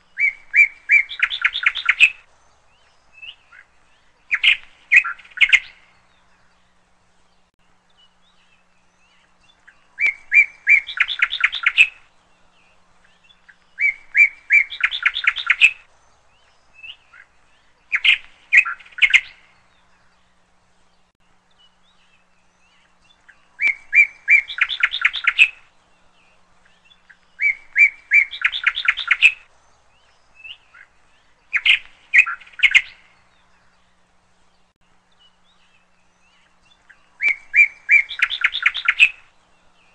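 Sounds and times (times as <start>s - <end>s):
songbird singing with trill: 0.0s - 39.9s.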